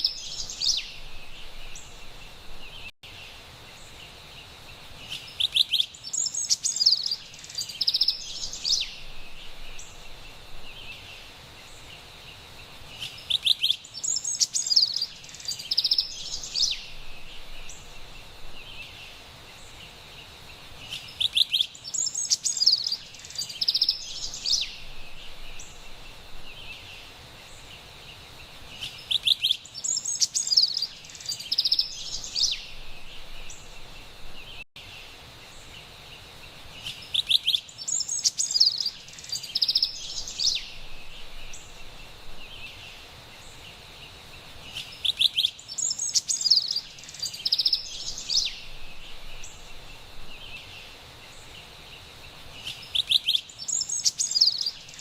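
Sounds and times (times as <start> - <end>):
wren singing: 0.0 - 2.9, 5.0 - 19.8, 20.8 - 27.7, 28.7 - 34.9, 36.8 - 43.8, 44.5 - 55.0
faint background hiss: 0.0 - 55.0.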